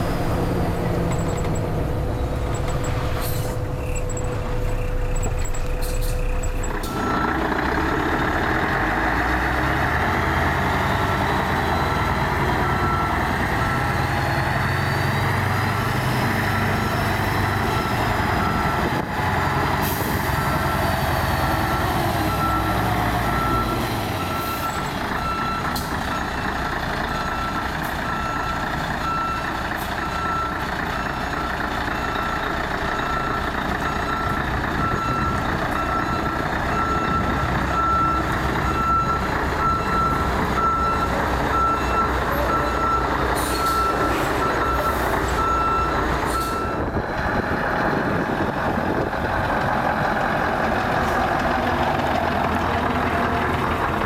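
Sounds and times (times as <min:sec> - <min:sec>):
diesel truck engine running: 0:00.0 - 0:54.0
truck reversing alarm beeping: 0:00.0 - 0:54.0.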